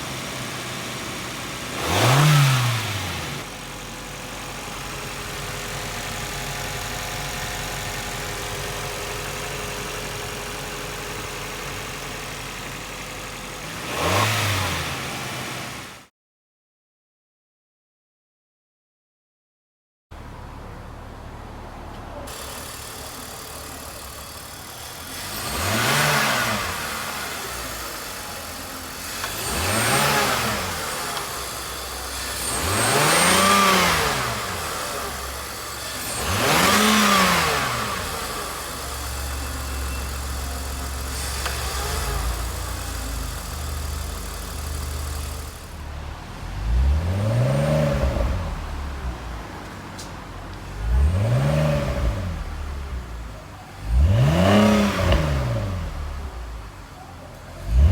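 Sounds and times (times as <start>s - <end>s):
sports car engine revving: 0.0s - 16.0s, 22.3s - 57.9s.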